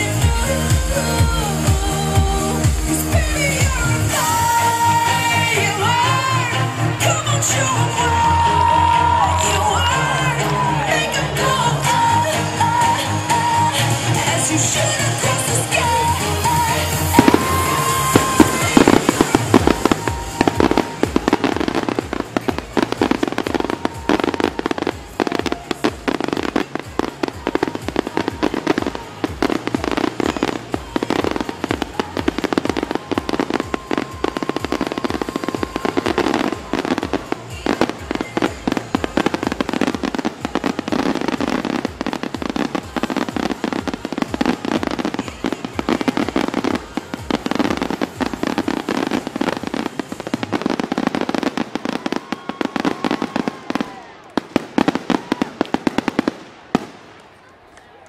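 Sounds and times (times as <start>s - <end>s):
fireworks bangs and crackles: 0.0s - 57.7s.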